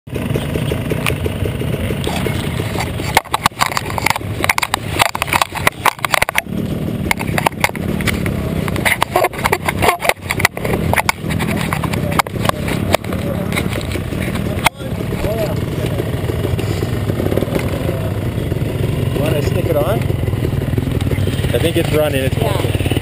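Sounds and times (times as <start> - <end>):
dirt bike engine idling: 0.1 - 23.0
sharp knocks and rattles: 0.1 - 23.0.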